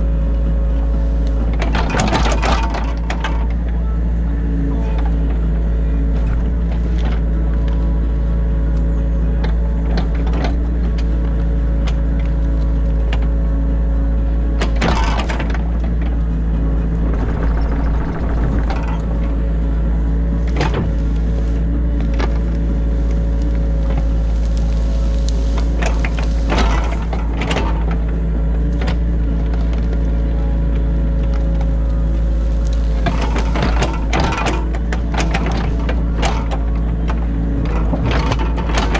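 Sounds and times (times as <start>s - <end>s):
excavator diesel engine running: 0.0s - 38.9s
hydraulic working noise: 0.0s - 38.9s.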